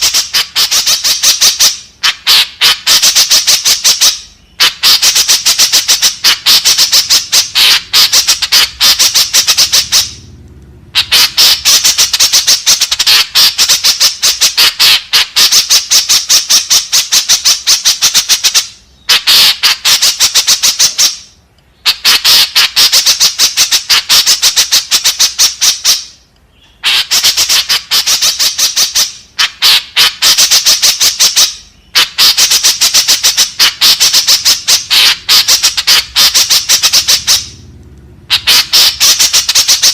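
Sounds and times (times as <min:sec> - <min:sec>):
bird harsh squawking calls: 0:00.0 - 0:10.3, 0:10.9 - 0:37.7, 0:38.3 - 0:39.9.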